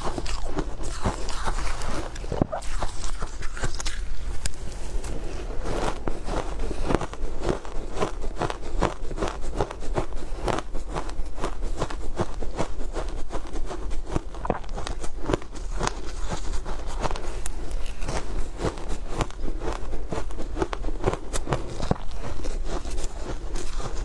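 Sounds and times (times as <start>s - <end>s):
shaved ice being chewed: 0.0s - 24.0s.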